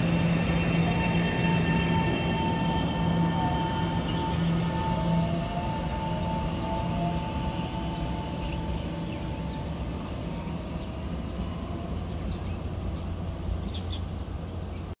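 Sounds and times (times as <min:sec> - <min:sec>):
birds chirping: 0:00.0 - 0:15.0
electric train whine: 0:00.0 - 0:15.0
train wheels rumbling on rails: 0:00.0 - 0:15.0.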